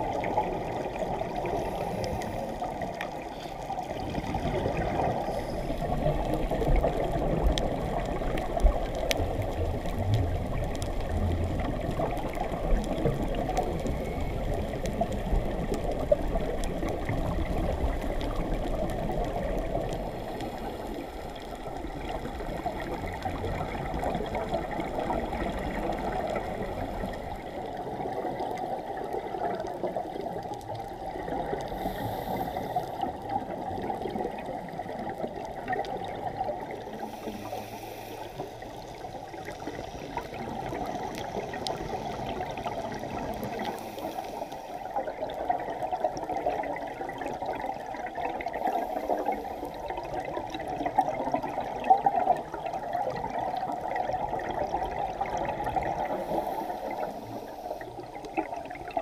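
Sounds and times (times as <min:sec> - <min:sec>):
muffled underwater crackle: 0:00.0 - 0:59.0.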